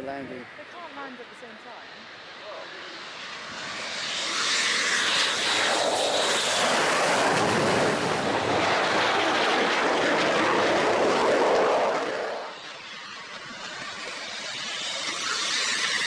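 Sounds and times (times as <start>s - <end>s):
jet fighters passing overhead: 0.0s - 16.0s.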